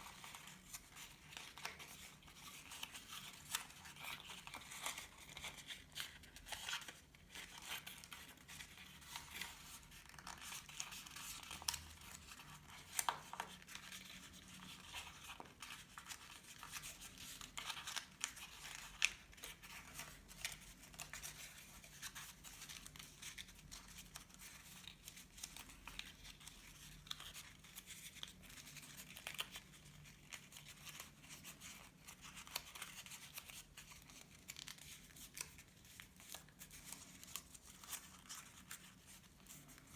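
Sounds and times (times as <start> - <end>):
paper rustling and folding: 0.0 - 39.9.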